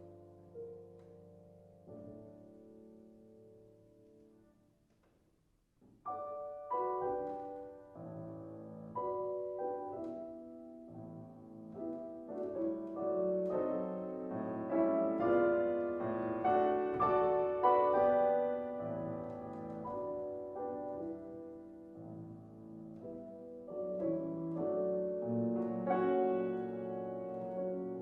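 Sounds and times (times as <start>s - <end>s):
classical piano music: 0.0s - 28.0s.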